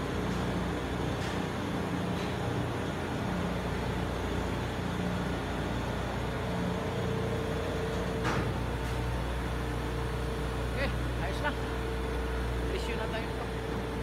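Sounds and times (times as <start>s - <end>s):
engine-room machinery drone: 0.0s - 14.0s.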